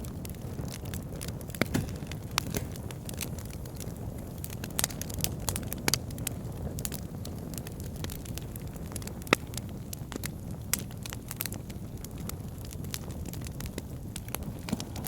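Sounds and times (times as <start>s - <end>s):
fire crackling and popping: 0.0s - 15.0s
flames rumbling: 0.0s - 15.0s.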